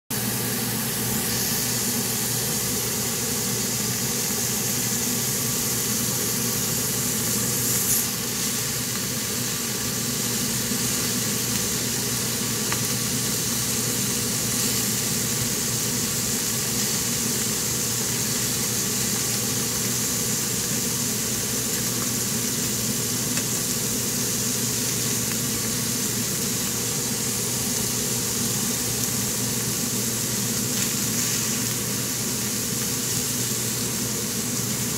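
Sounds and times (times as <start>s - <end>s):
food sizzling in a frying pan: 0.1s - 34.9s.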